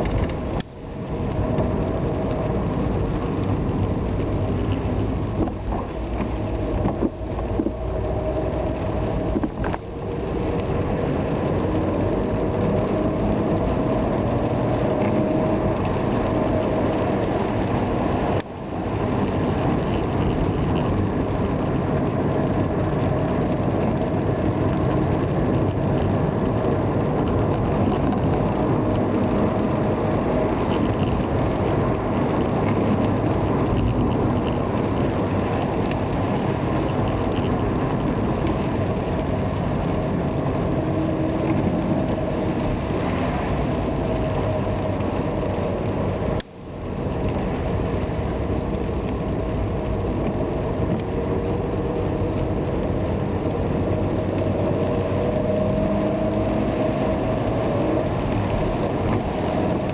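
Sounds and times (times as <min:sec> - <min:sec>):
car engine: 0:00.0 - 0:59.9
tyres on wet road: 0:00.0 - 0:59.9.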